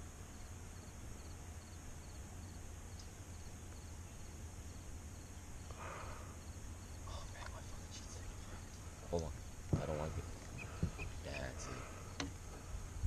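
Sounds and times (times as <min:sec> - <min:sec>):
constant high buzz: 0:00.0 - 0:13.0
insects chirping: 0:00.0 - 0:13.0.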